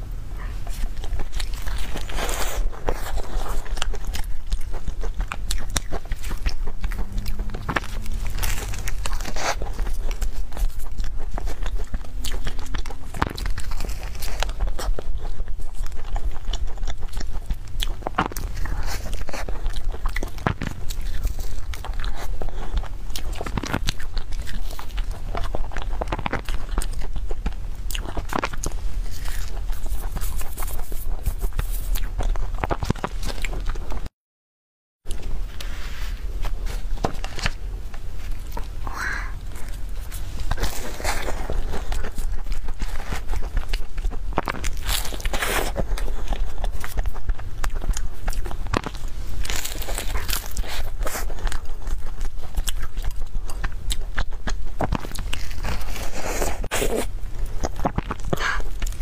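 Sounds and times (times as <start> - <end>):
crunchy pastry chewing: 0.0 - 34.1, 35.1 - 59.0.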